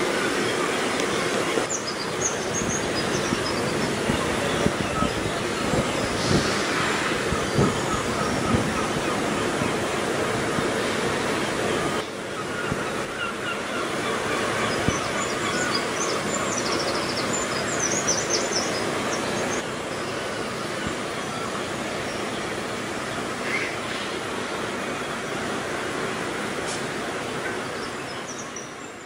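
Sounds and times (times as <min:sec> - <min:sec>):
steady rushing outdoor noise: 0:00.0 - 0:29.0.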